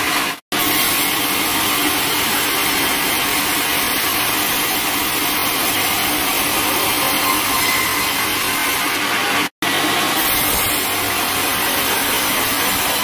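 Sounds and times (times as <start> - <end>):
band saw cutting log: 0.0 - 13.0.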